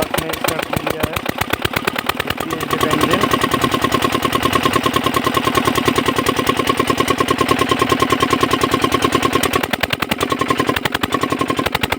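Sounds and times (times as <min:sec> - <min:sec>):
diesel engine thudding: 0:00.0 - 0:10.0.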